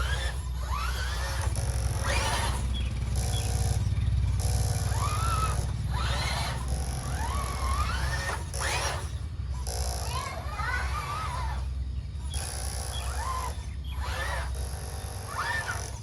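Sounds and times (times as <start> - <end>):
electric rc car motors whining: 0.0 - 16.0.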